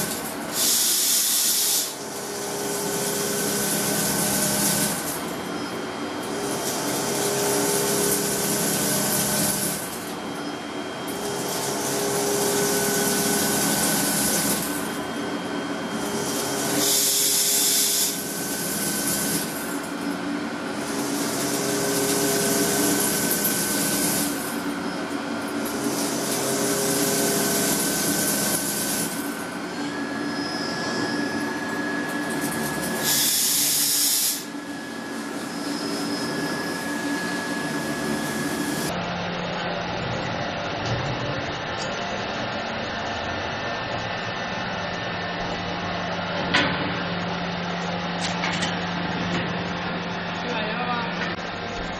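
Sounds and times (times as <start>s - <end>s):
machinery hum: 0.0s - 51.9s.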